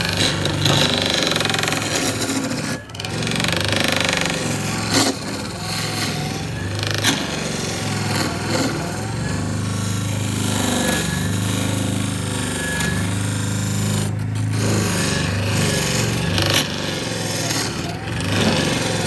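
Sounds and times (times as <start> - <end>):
power tool grinding wood: 0.0 - 19.0.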